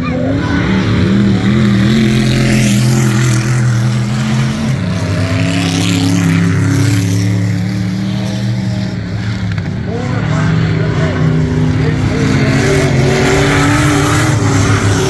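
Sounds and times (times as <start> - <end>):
vehicle engines droning: 0.0 - 15.0.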